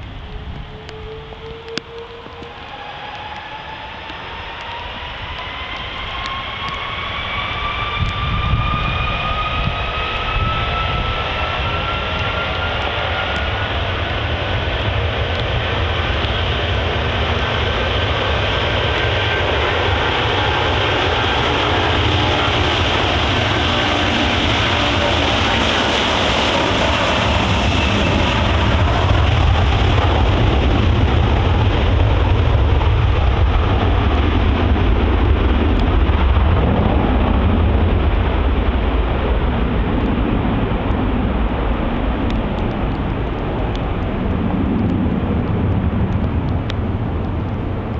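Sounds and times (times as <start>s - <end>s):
jet engines spooling up: 0.0s - 47.9s.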